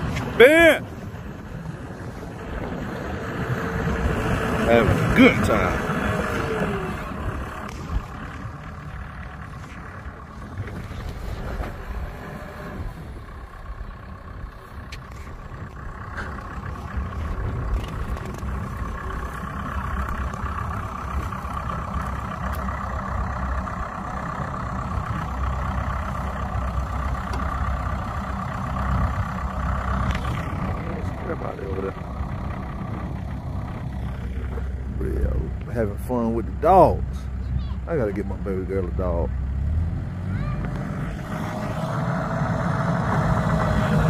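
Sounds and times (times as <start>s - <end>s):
dozer diesel engine running: 0.0s - 44.0s.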